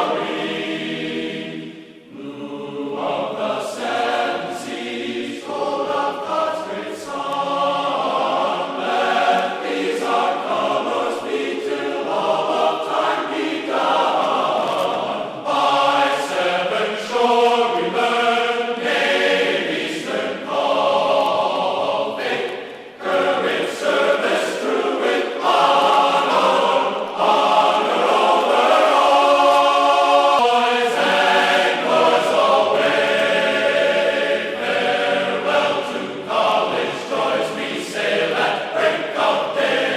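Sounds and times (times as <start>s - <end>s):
choir-like voices in music: 0.0s - 39.9s.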